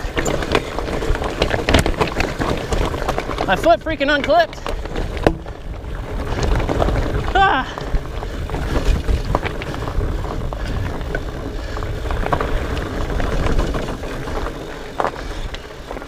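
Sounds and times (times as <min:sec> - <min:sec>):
bike rattling over rocks: 0:00.0 - 0:16.0
wind rumble on microphone: 0:00.0 - 0:16.0.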